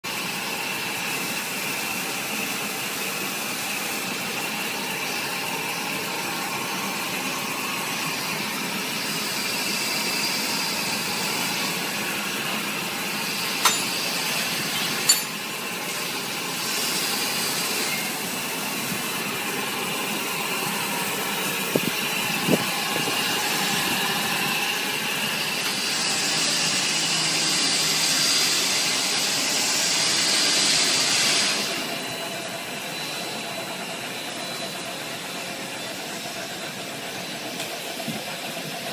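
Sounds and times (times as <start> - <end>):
machinery running with a hiss: 0.1 - 38.9.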